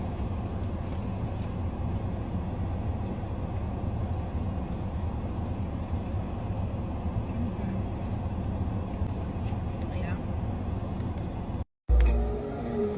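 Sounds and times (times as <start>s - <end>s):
low rumble inside car: 0.0s - 12.9s.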